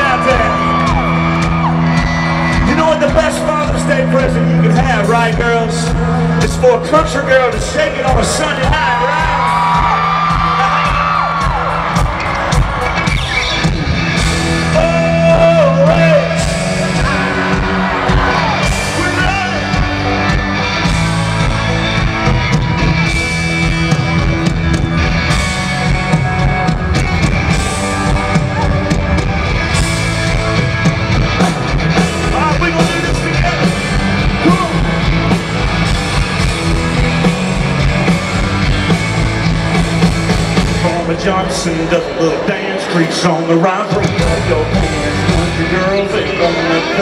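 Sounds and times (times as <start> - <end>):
live country band playing: 0.0 - 47.0.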